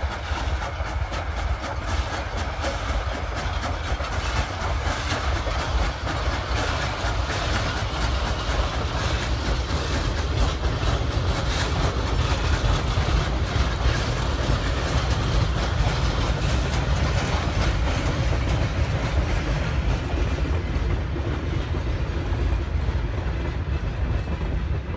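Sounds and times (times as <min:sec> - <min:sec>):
steam locomotive exhaust: 0:00.0 - 0:24.9
train wheels clattering over rails: 0:00.0 - 0:24.9.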